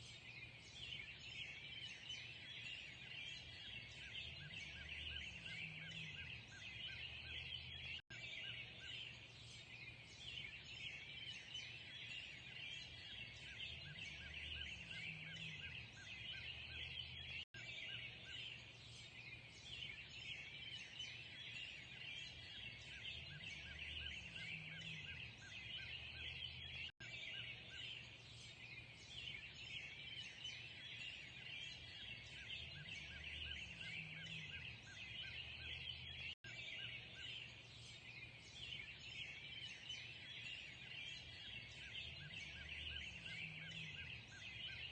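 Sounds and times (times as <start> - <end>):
birds chirping and singing: 0.0 - 44.9.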